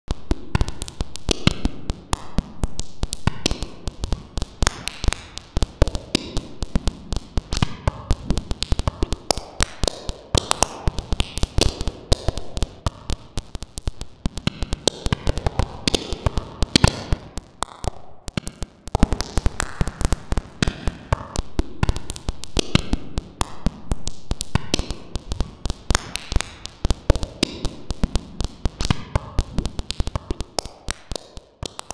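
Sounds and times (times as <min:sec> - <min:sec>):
music of clicks and taps: 0:00.1 - 0:31.9.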